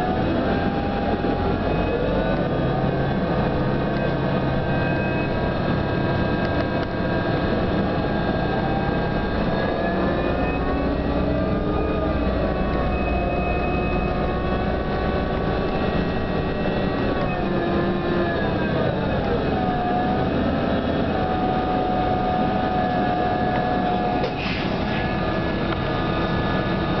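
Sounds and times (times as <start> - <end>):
bus drivetrain whine: 0.0 - 27.0
engine and road rumble: 0.0 - 27.0.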